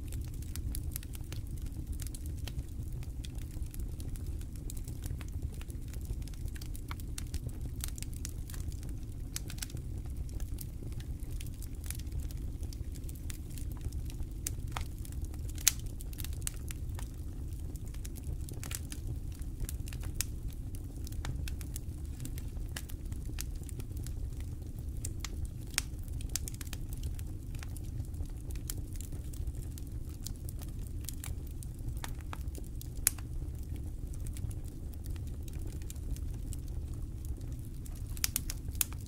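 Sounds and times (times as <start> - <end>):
campfire crackling and popping: 0.0 - 39.0
low steady fire rumble: 0.0 - 39.0.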